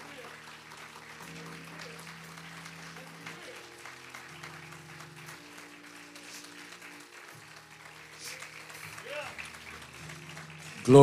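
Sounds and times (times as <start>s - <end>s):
congregation applauding: 0.0s - 11.0s
sustained keyboard chords: 0.0s - 11.0s.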